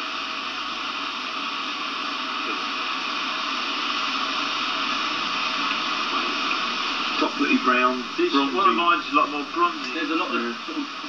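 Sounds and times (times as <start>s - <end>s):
steady static hiss: 0.0s - 11.0s.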